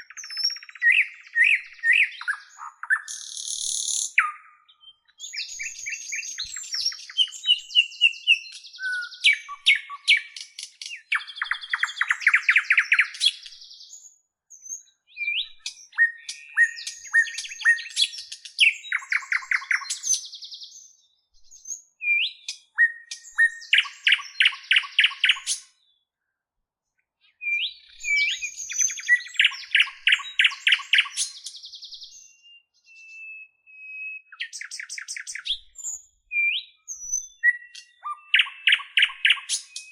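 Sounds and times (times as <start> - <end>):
songbird singing trills and whistles: 0.0 - 26.1, 27.2 - 39.9.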